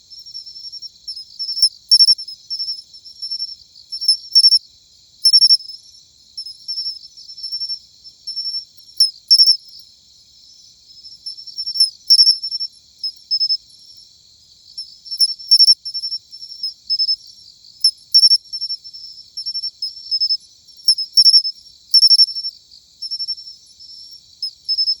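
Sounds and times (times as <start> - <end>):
cricket chirping: 0.0 - 25.0
loud sharp cricket notes: 0.1 - 14.1, 14.7 - 25.0.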